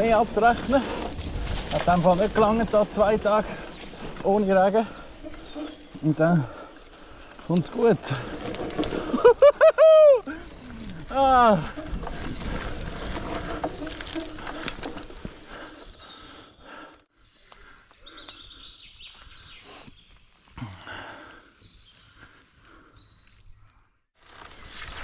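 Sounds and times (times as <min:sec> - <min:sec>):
mountain bike rolling on dirt: 0:00.0 - 0:23.6, 0:24.2 - 0:25.0
birds chirping: 0:01.8 - 0:09.6, 0:10.3 - 0:24.1.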